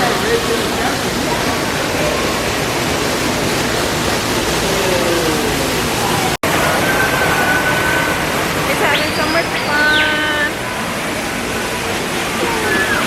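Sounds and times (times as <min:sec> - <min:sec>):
rushing falling water: 0:00.0 - 0:13.0.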